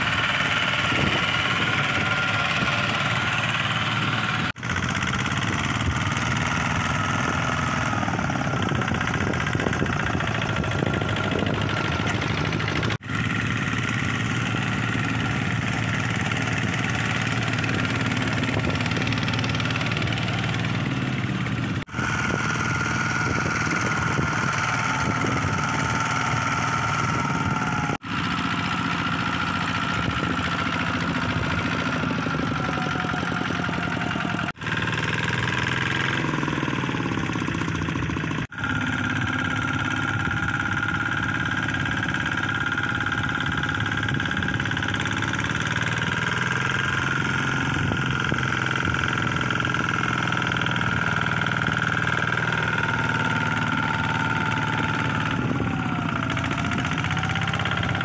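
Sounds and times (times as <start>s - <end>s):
diesel tractor engine chugging: 0.0s - 58.0s.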